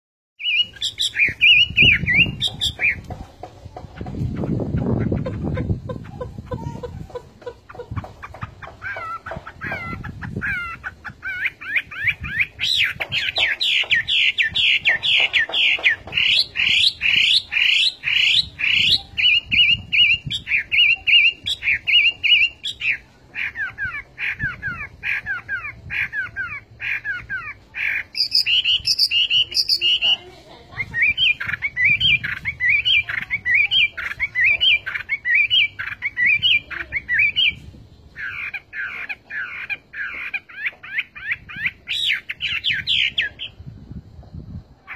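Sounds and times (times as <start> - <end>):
bird singing whistled song: 0.4 - 3.0, 9.0 - 30.1, 30.8 - 43.7.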